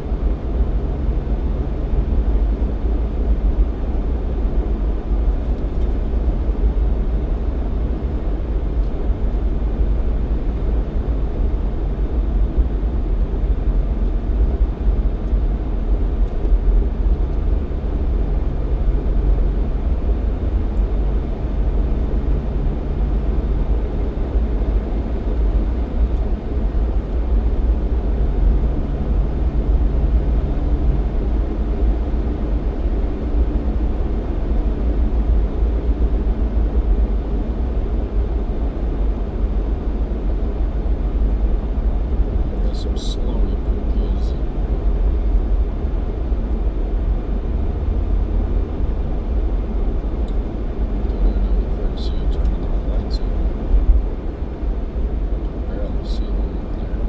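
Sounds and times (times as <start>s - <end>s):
engine and tyre rumble: 0.0s - 57.0s
faint engine hum: 0.0s - 57.0s.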